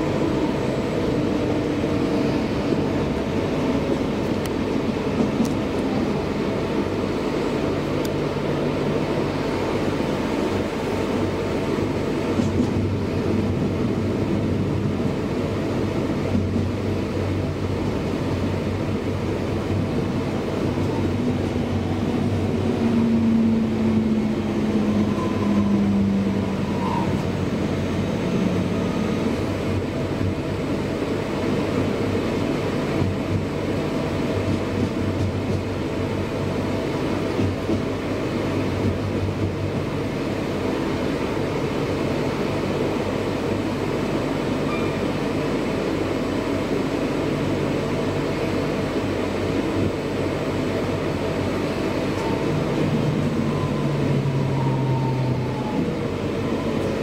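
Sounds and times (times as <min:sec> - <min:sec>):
wheel-on-rail rumble: 0:00.0 - 0:57.0.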